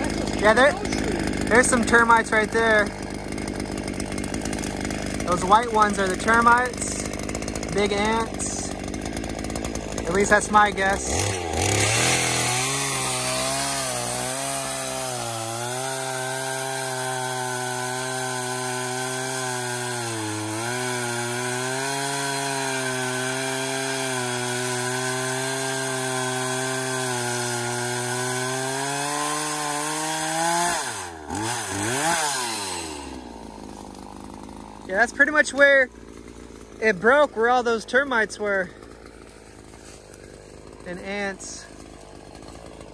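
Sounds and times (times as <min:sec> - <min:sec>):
chainsaw cutting log: 0:00.0 - 0:42.9.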